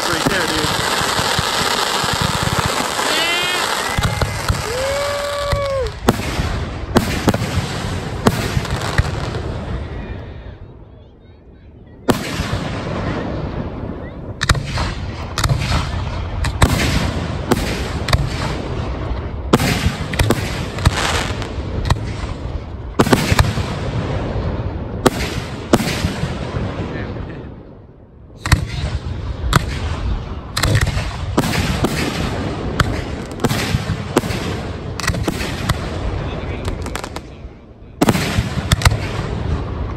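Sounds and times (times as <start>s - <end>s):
fireworks bursting with sharp bangs: 0.0s - 10.6s, 12.0s - 39.9s.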